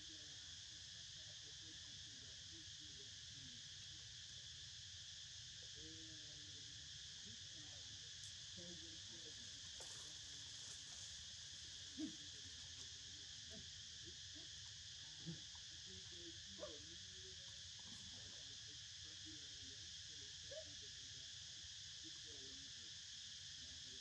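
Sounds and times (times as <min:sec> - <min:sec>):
insects chorus drone: 0:00.0 - 0:24.0.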